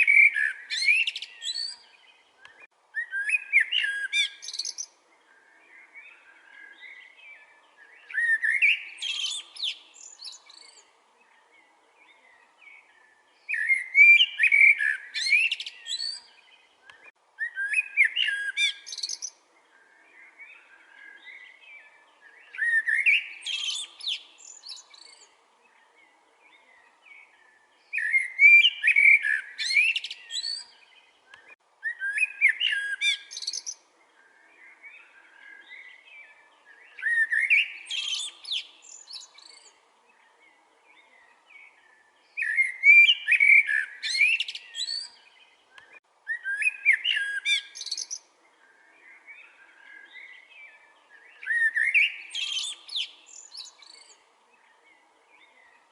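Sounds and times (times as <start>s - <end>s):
faint bird chirps: 0.0s - 55.9s
songbird singing: 0.0s - 55.9s.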